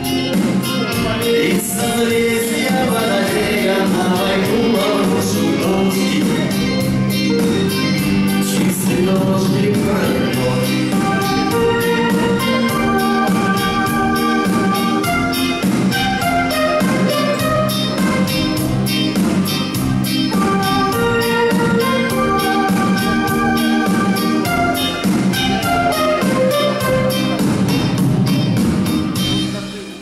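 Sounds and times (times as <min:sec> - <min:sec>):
live band playing: 0:00.0 - 0:30.0.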